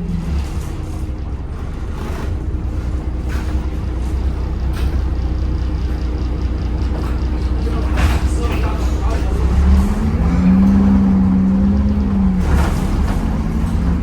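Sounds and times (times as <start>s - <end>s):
bus diesel engine rumbling: 0.0s - 14.0s.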